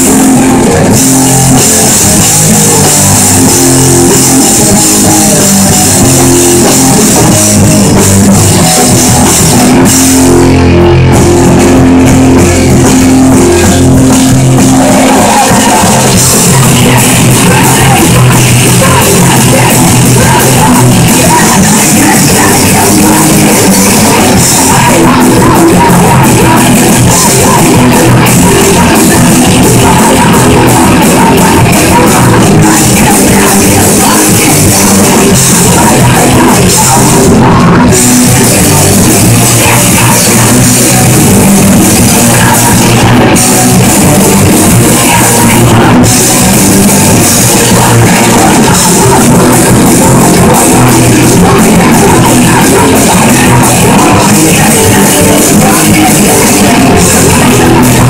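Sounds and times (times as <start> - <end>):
bass guitar: 0.0 - 58.0
drum kit: 0.0 - 58.0
electric guitars: 0.0 - 58.0
vocals into microphones: 0.0 - 58.0.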